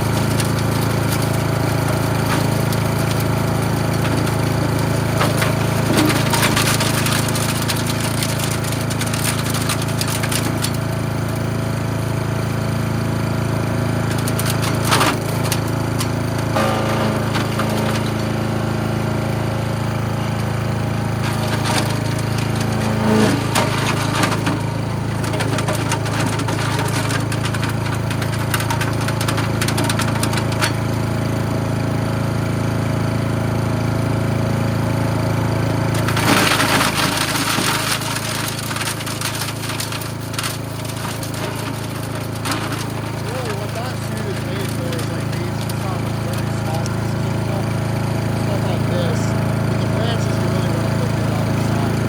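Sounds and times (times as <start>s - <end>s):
wood crackling and snapping: 0.0s - 31.3s, 35.6s - 52.0s
chipper shredder engine running: 0.0s - 52.0s.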